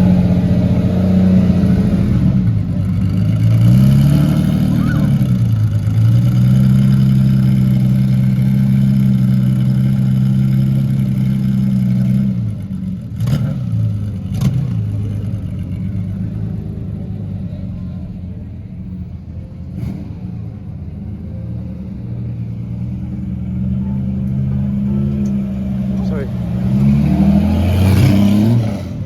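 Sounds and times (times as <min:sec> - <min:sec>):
car engine running at low revs: 0:00.0 - 0:29.0.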